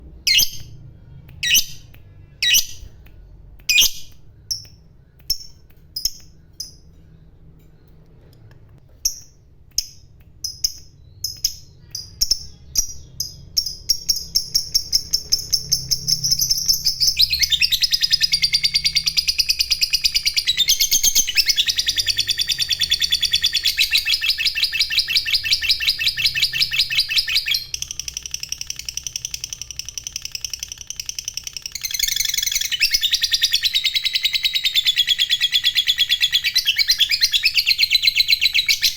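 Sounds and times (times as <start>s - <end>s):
lovebird chirping and chattering: 0.2s - 0.8s, 1.4s - 38.9s.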